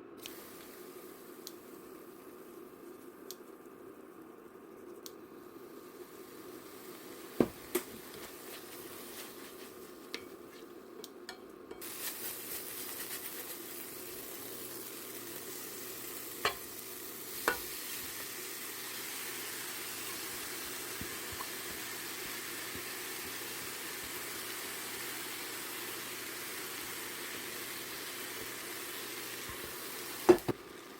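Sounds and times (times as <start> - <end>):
food sizzling in a frying pan: 0.3 - 3.6, 5.3 - 10.6, 11.7 - 30.9.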